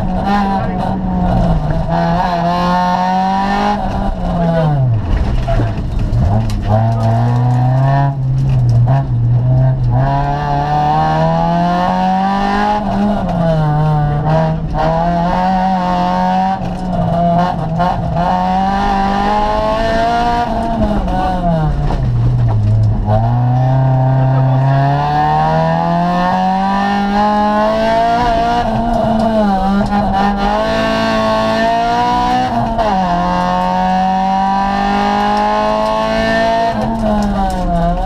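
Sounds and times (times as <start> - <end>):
car engine revving hard: 0.0 - 4.9, 6.2 - 38.0.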